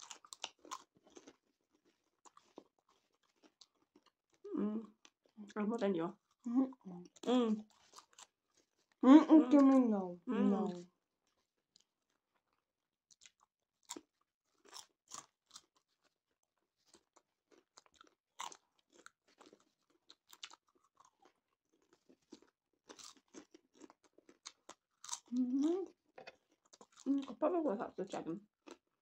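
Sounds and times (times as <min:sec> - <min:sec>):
people chewing popcorn: 0:00.0 - 0:29.0.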